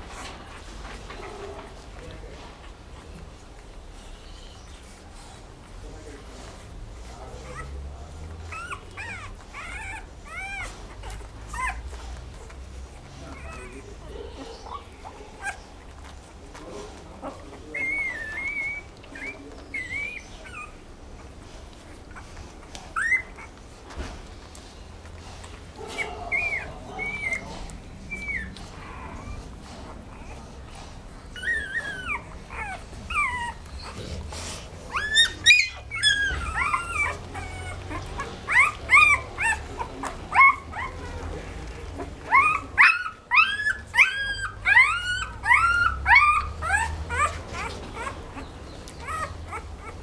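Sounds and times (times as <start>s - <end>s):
dog whining and whimpering: 7.2s - 23.7s, 25.8s - 50.0s.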